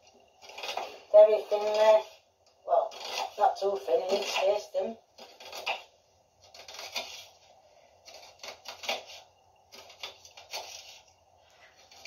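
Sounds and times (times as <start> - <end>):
knife slicing onion: 0.4 - 12.0.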